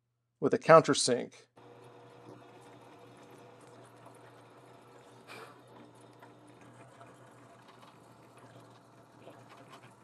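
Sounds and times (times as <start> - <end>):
drill press motor hum: 1.6 - 10.0.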